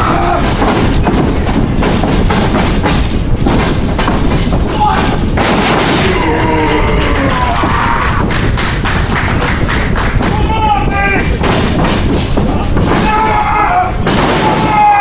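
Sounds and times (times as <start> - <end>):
dense background noise: 0.0 - 15.0.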